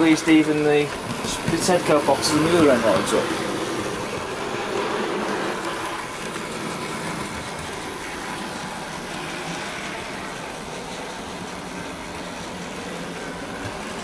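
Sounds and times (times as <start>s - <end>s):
model train motor humming: 0.0s - 14.0s
wheels running on rails: 0.0s - 14.0s.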